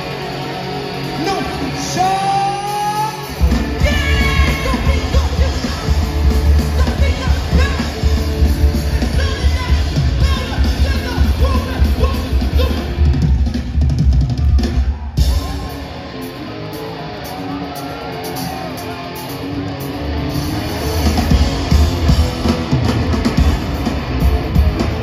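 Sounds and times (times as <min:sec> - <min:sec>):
voices yelling: 0:00.0 - 0:13.6, 0:14.4 - 0:22.7
punk band playing live: 0:00.0 - 0:25.0.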